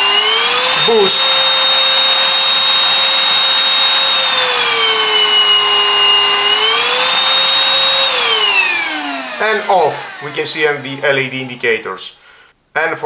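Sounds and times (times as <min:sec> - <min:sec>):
vacuum cleaner motor whining: 0:00.0 - 0:12.2.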